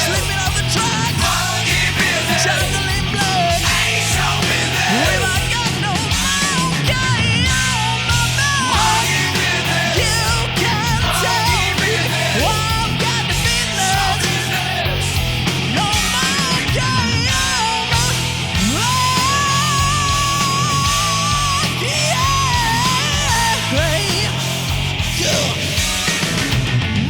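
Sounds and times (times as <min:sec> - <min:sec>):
bass line: 0:00.0 - 0:27.0
hard rock music: 0:00.0 - 0:27.0.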